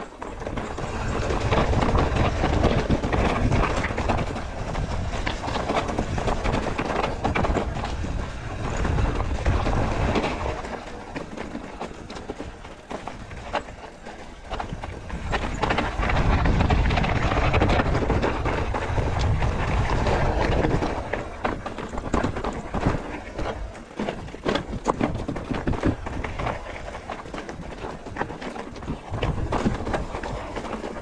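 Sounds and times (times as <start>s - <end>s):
bike rattling over bumps: 0.0s - 31.0s
wind rumbling on microphone: 0.0s - 31.0s.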